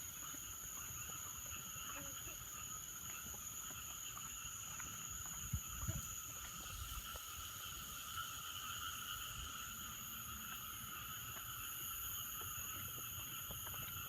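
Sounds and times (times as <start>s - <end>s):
frogs and insects trilling: 0.0s - 14.0s.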